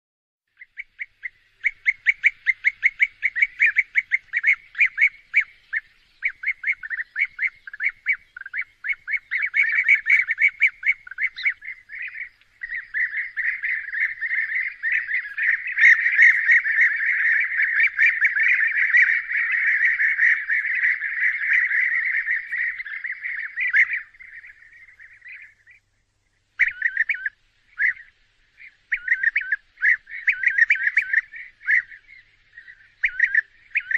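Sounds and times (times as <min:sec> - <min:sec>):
dense bird chorus: 0:00.5 - 0:33.9
birds rolling calls: 0:00.6 - 0:25.9, 0:26.5 - 0:33.9.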